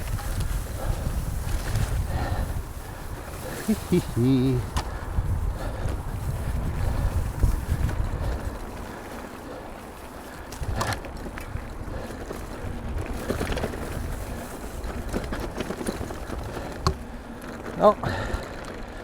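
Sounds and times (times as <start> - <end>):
wind rumbling on microphone: 0.0 - 18.9.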